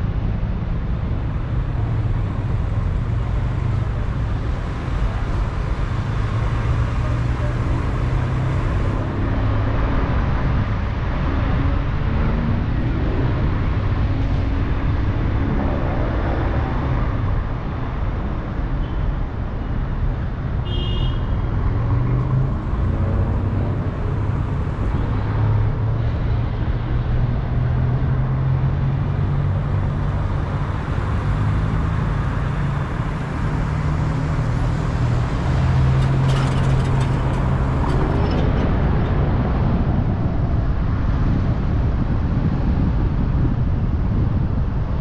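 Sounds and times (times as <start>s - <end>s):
car engine hum: 0.0s - 45.0s
tyre noise on road: 0.0s - 45.0s.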